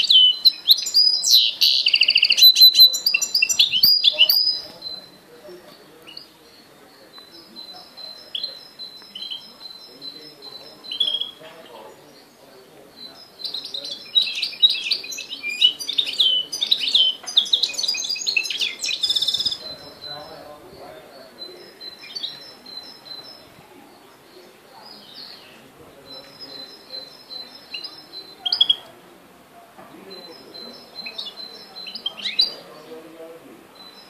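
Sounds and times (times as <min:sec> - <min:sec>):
bird singing twittering warble: 0:00.0 - 0:28.9, 0:30.0 - 0:33.1, 0:33.7 - 0:34.0
high bird chirps: 0:00.0 - 0:29.0, 0:30.0 - 0:32.9.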